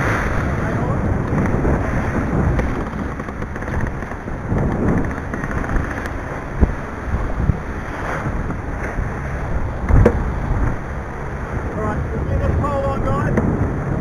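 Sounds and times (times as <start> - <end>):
water splashing along hull: 0.0 - 14.0
wind rumbling on microphone: 0.0 - 14.0.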